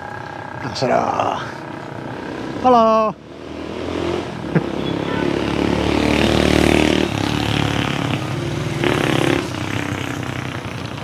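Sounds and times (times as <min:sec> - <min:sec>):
motorcycle engine passing: 0:00.9 - 0:11.0.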